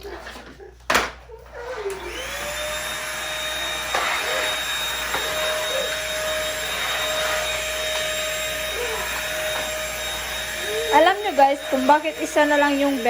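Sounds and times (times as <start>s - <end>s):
vacuum cleaner running: 1.4s - 13.0s.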